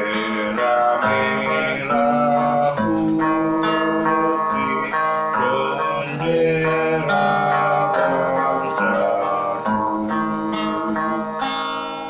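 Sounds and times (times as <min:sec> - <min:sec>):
amplified guitar strummed chords: 0:00.0 - 0:12.0.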